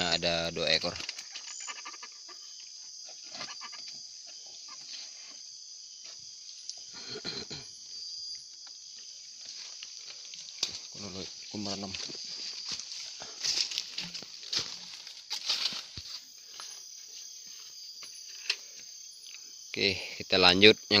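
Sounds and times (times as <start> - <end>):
night insects chorus: 0.0 - 21.0.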